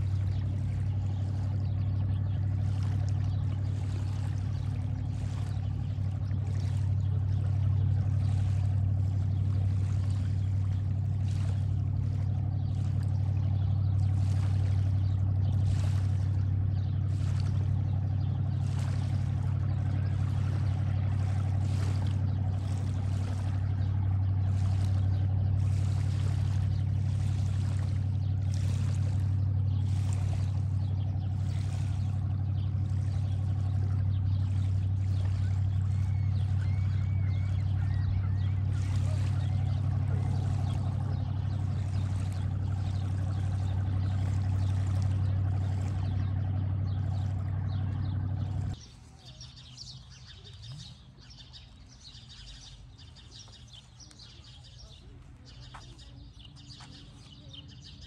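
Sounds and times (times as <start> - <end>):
low rumble with rushing: 0.0 - 48.9
birds chirping: 0.0 - 58.0.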